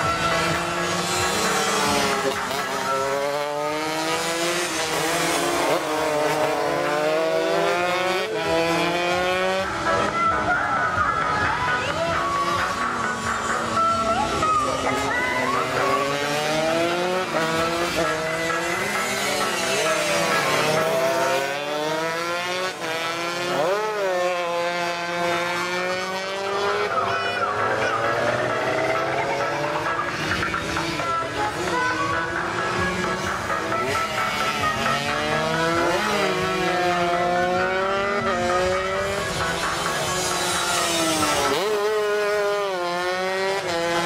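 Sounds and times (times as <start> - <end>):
racing motorcycle engines revving: 0.0 - 44.0.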